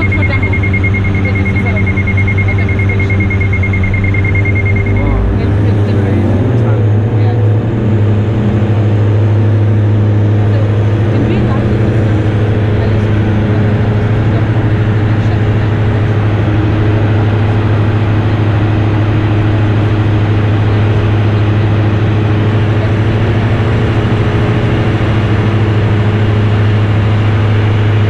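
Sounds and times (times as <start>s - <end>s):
aircraft cabin engine drone: 0.0s - 28.0s.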